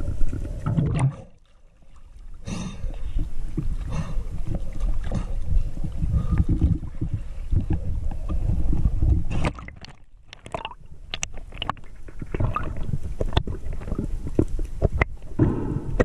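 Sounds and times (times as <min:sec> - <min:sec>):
underwater clicks and crackles: 0:00.0 - 0:16.0.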